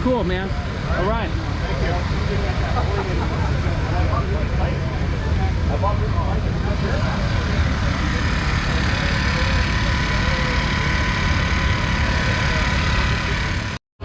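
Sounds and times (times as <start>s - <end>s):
motorcycle engine idling: 0.5s - 13.8s.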